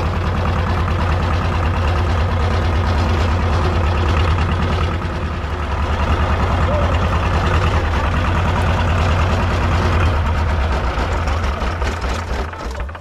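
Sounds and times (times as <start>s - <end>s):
cart engine humming: 0.0s - 13.0s.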